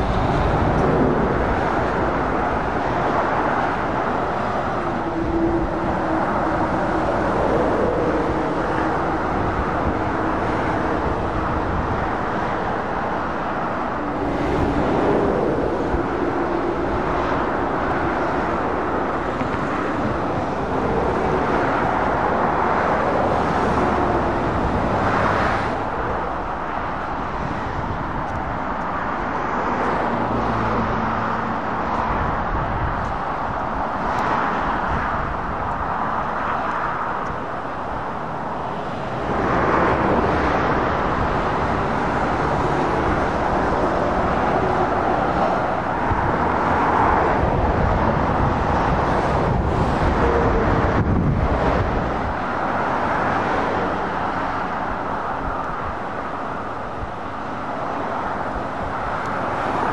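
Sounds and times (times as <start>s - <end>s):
diesel engines passing: 0.0s - 59.9s.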